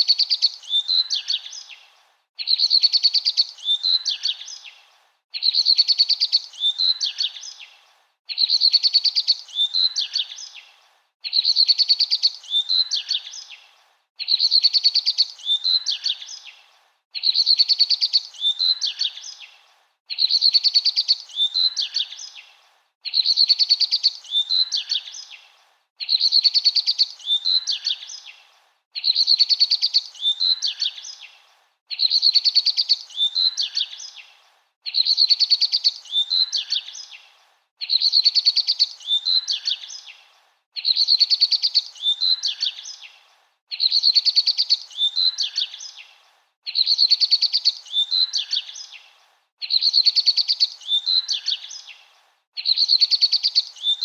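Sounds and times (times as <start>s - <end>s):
bird song trill and chirps: 0.0s - 54.0s.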